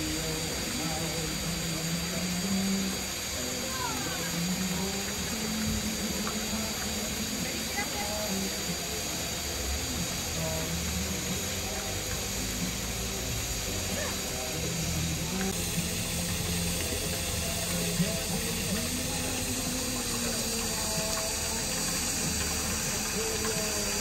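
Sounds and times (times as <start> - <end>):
murmur of voices: 0.0 - 24.0
steady hiss: 0.0 - 24.0.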